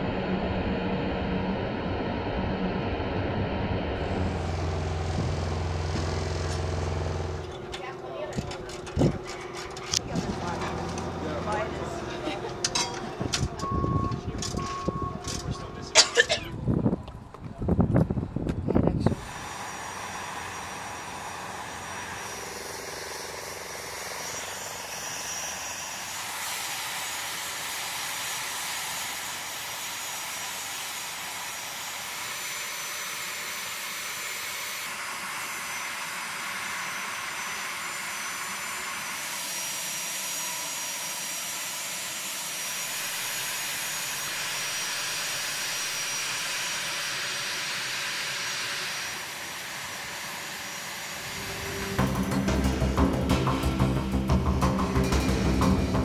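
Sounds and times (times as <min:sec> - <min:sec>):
jet turbine engines whining: 0:00.0 - 0:56.0.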